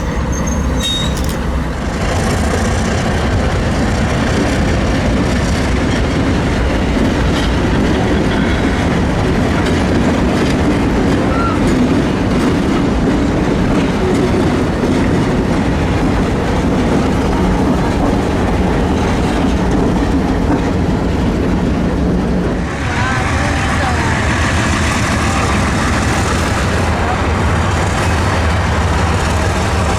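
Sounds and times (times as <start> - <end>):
train wheels clacking over rail joints: 0.0 - 22.6, 24.1 - 29.9.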